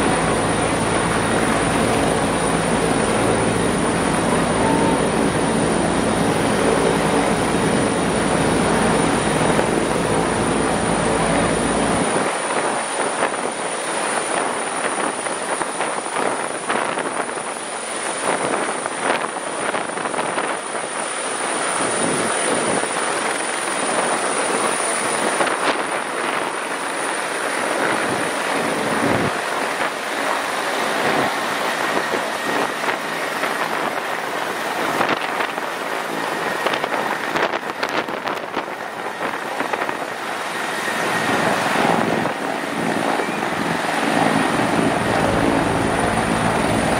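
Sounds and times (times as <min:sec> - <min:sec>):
helicopter rotor and engine roar: 0:00.0 - 0:46.9
high turbine whine: 0:00.0 - 0:46.9.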